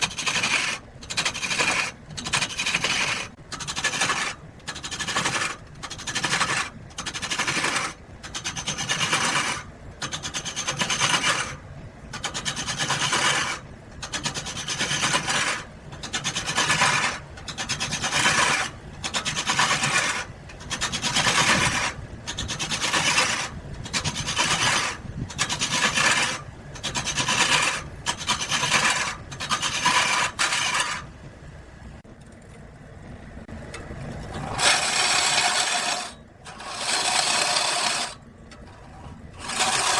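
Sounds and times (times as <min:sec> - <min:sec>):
hand tool rasping wood: 0:00.0 - 0:11.6, 0:12.2 - 0:31.1, 0:34.5 - 0:38.2, 0:38.8 - 0:39.9.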